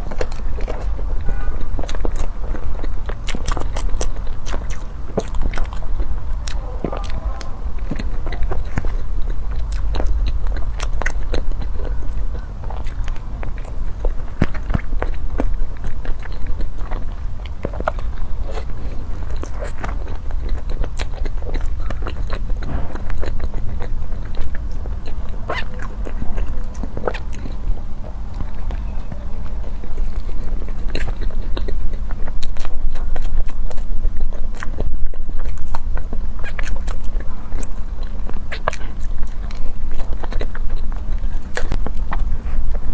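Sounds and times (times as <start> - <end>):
mouth clicks and smacks: 0.0 - 42.9
person chewing food: 0.0 - 42.9.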